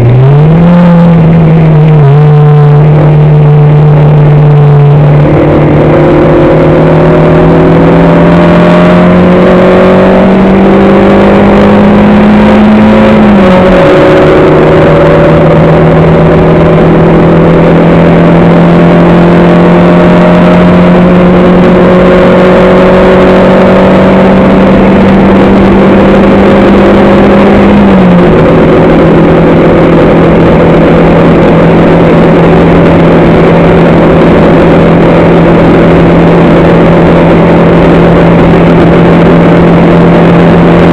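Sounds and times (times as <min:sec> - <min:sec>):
car engine pulling hard: 0:00.0 - 0:40.9.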